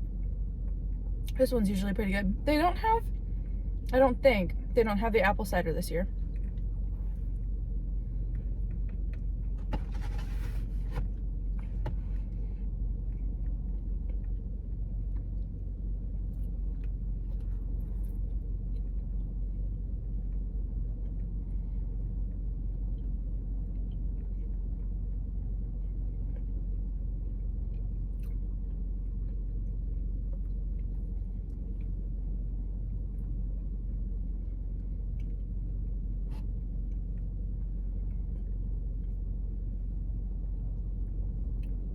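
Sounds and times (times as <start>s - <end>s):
low rumble: 0.0s - 41.9s.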